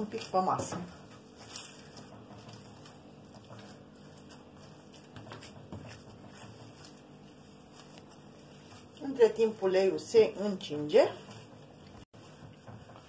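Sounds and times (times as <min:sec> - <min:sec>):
dough thumps: 0:00.0 - 0:13.0
hands kneading dough: 0:00.0 - 0:13.0.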